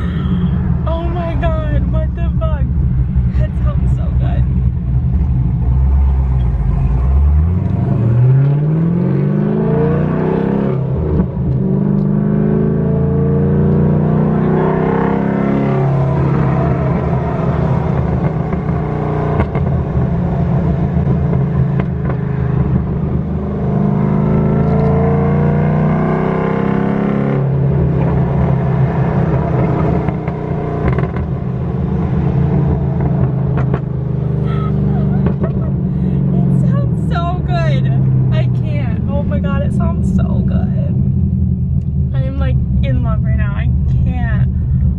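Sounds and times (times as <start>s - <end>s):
loud car engine revving: 2.7s - 44.9s.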